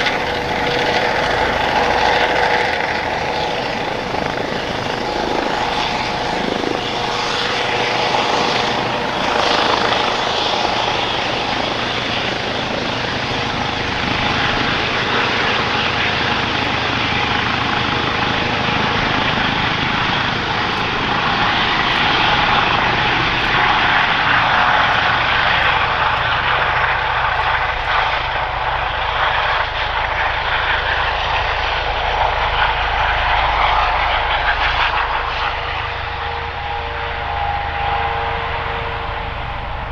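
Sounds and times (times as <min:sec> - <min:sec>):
helicopter rotor beat: 0:00.0 - 0:39.9
helicopter turbine whine: 0:00.0 - 0:39.9
tail rotor whir: 0:00.0 - 0:39.9.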